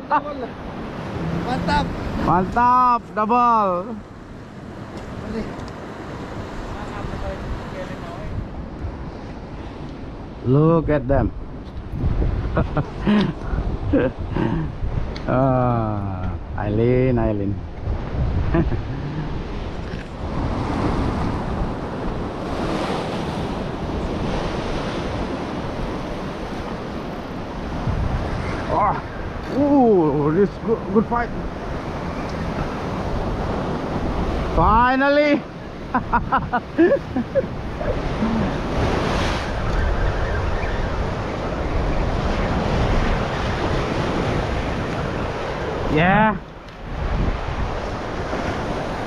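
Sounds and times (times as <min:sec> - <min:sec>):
sea surf breaking over rocks: 0:00.0 - 0:10.4, 0:17.8 - 0:49.0
wind buffeting microphone: 0:04.0 - 0:34.7, 0:35.5 - 0:49.0.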